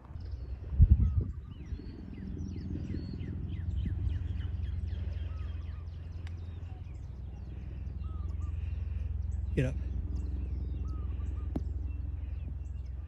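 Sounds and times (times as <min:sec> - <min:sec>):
many birds chirping: 0:00.0 - 0:13.0
steady low rumble: 0:00.0 - 0:13.0.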